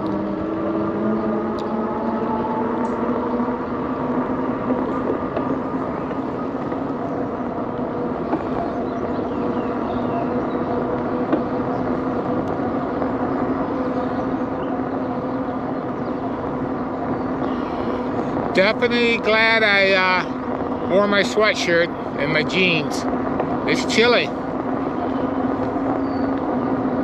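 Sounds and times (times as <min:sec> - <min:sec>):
electric bike motor hum: 0:00.0 - 0:27.0.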